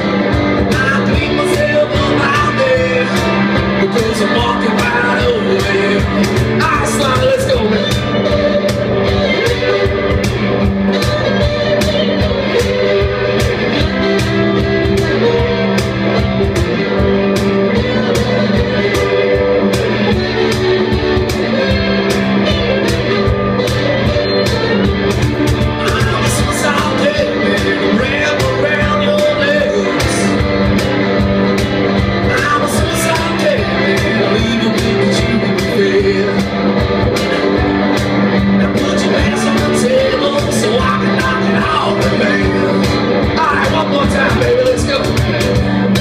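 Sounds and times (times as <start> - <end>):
person singing: 0.0 - 10.2, 10.9 - 31.0, 32.1 - 46.0
drums keeping a steady beat: 0.0 - 46.0
guitar: 0.0 - 46.0.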